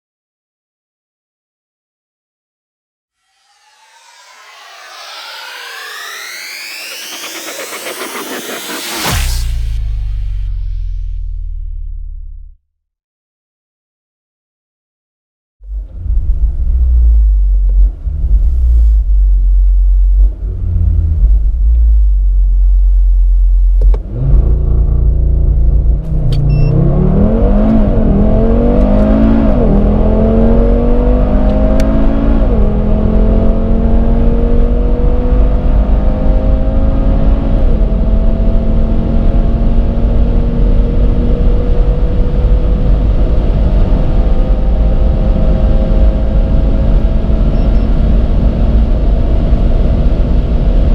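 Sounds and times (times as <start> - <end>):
car engine accelerating: 3.2 - 12.6, 15.6 - 50.9.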